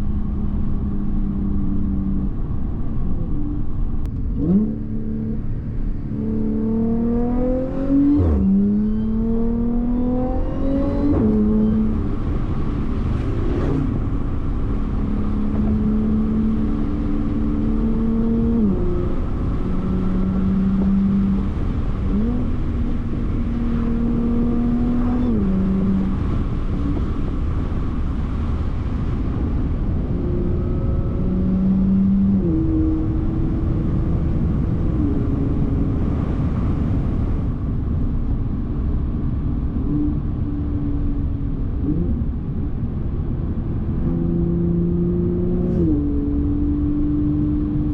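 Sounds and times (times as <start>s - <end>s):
car engine accelerating: 0.0s - 47.9s
road noise rumble: 0.0s - 47.9s.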